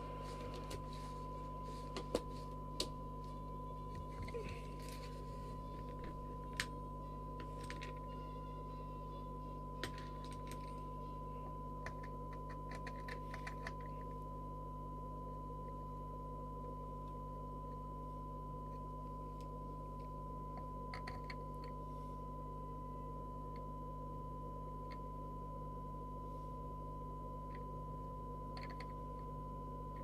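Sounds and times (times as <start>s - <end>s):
steady test tone from radio: 0.0s - 12.7s, 13.8s - 30.0s
low steady hum: 0.0s - 30.0s.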